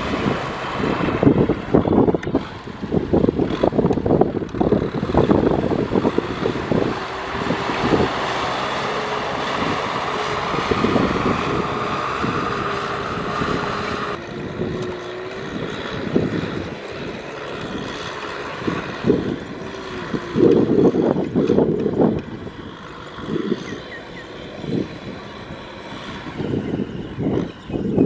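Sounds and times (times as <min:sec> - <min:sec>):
tractor engine running under load: 0:00.0 - 0:28.0
wind on microphone: 0:00.0 - 0:28.0.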